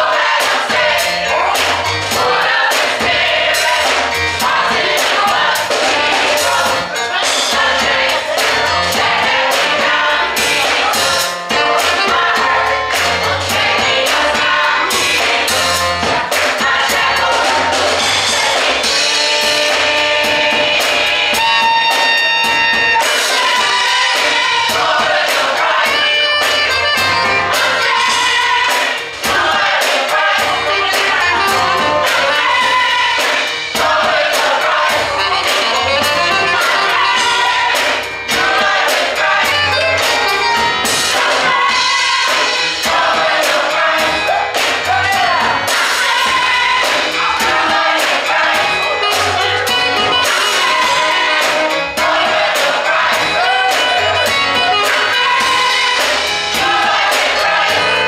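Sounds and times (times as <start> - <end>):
gospel choir singing: 0.0 - 58.0
instrumental accompaniment with beat: 0.0 - 58.0.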